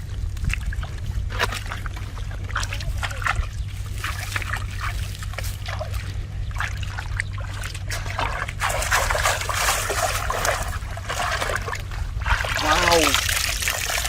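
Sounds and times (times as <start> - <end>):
low rumble: 0.0 - 14.0
shallow water splashing: 0.0 - 14.0.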